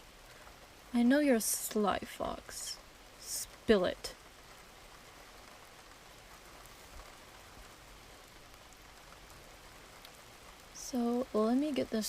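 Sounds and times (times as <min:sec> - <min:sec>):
faint rain falling: 0:00.0 - 0:12.0.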